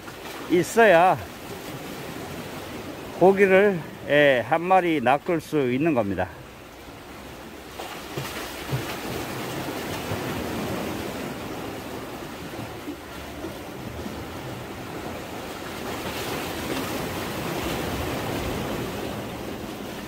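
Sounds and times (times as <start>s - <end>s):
sea waves washing against breakwater: 0.0s - 20.0s.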